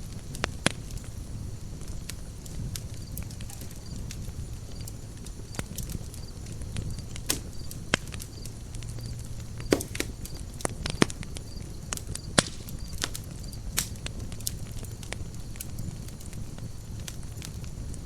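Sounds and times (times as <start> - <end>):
wood crackling and popping: 0.0 - 18.0.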